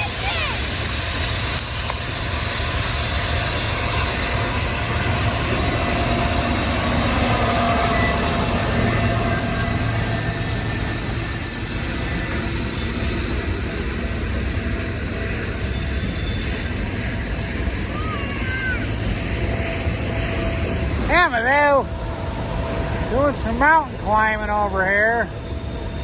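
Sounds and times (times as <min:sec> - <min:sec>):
freight train rumbling: 0:00.0 - 0:26.0
wheels squealing: 0:00.0 - 0:26.0.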